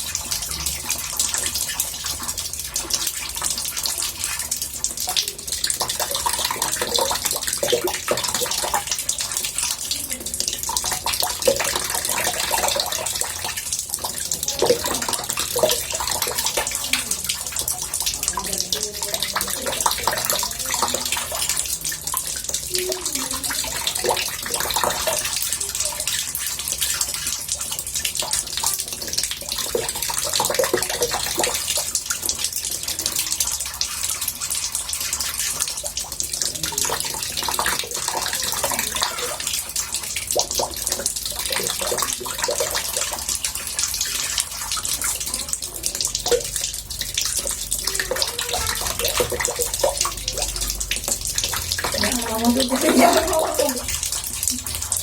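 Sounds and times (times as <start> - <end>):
water running into bathtub: 0.0 - 55.0.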